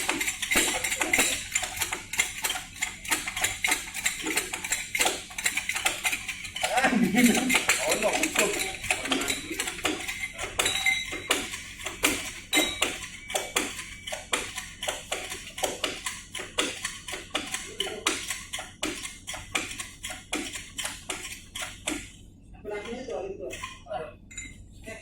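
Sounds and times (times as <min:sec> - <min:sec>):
metal clicking and knocking: 0:00.0 - 0:22.2.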